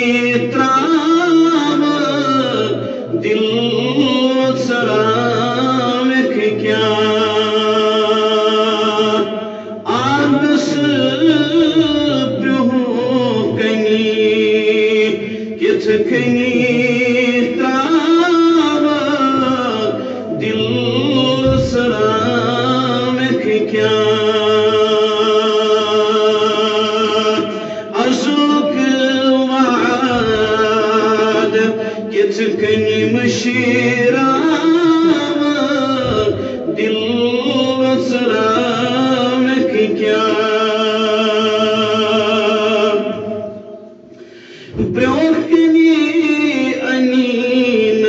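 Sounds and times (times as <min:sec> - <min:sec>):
man chanting: 0:00.0 - 0:44.0, 0:44.7 - 0:48.0.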